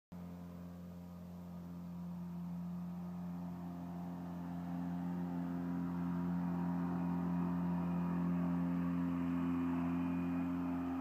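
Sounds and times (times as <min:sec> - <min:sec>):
outboard motor running: 0:00.1 - 0:11.0.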